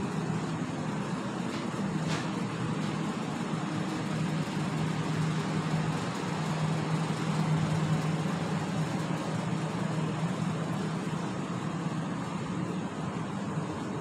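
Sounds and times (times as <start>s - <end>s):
passenger train idling: 0.0s - 14.0s.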